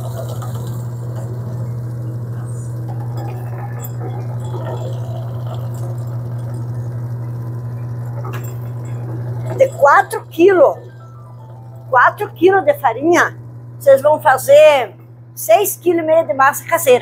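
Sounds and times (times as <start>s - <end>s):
pasta machine motor humming: 0.0s - 17.0s.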